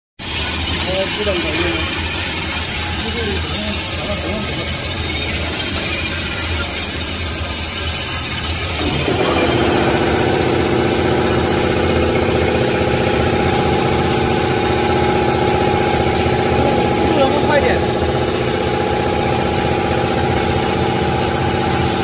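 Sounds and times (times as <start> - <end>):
machine hum: 0.2 - 22.0
multi-tone saw whine: 0.4 - 22.0.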